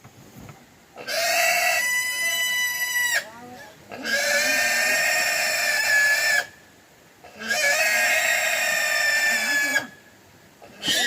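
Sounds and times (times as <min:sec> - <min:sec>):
high-pitched farm animal calls: 0:01.0 - 0:06.6, 0:07.2 - 0:11.0.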